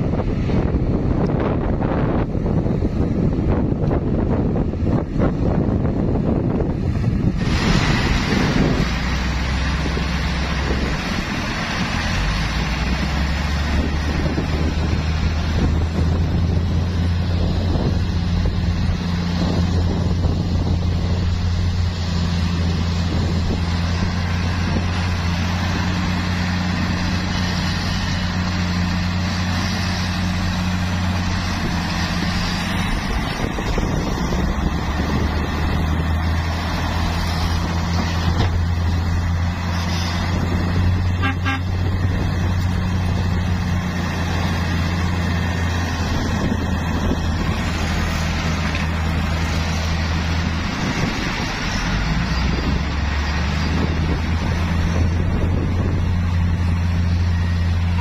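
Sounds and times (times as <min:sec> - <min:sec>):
diesel engines droning: 0:00.0 - 0:58.0.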